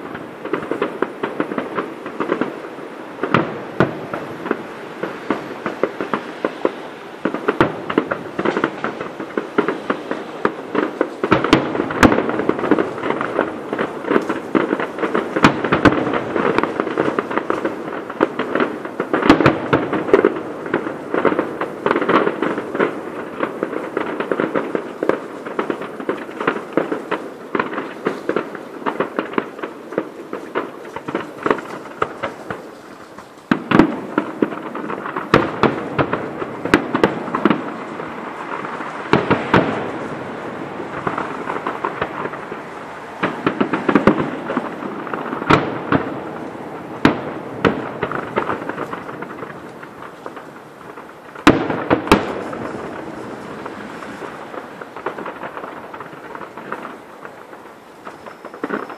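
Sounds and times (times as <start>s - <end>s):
distant fireworks pops and crackles: 0.0s - 58.9s
fireworks bangs: 0.0s - 58.9s.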